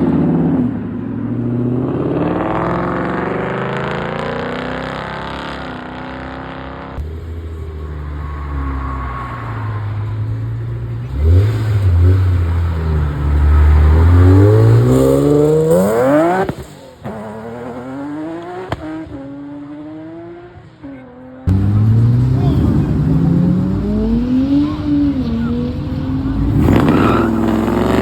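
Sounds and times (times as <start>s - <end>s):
car engine revving and accelerating: 0.0s - 28.0s.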